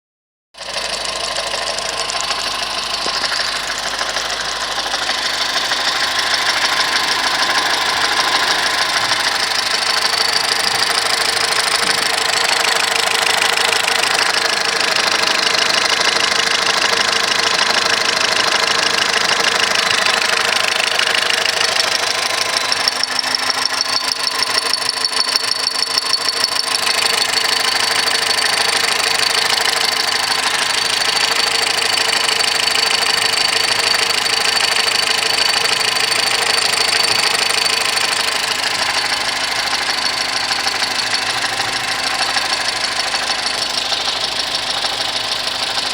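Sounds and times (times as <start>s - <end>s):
car engine idling: 0.6s - 45.9s.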